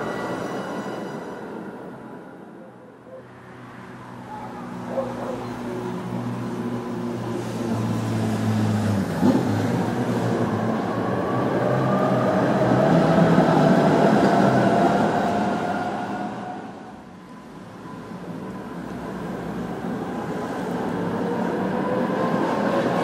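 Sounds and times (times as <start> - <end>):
tram rumbling past: 0.0 - 23.0.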